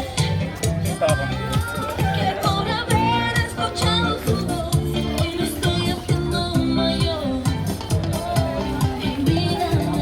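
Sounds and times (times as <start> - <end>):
latin dance music with singing: 0.0 - 10.0.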